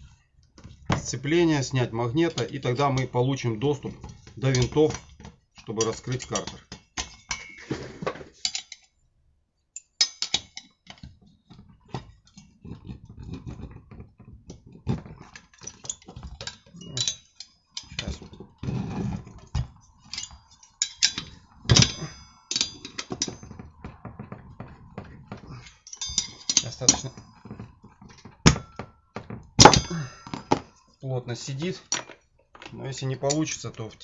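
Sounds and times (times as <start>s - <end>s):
metal tools clinking and knocking: 0.6s - 7.8s, 8.4s - 9.0s, 9.8s - 34.0s.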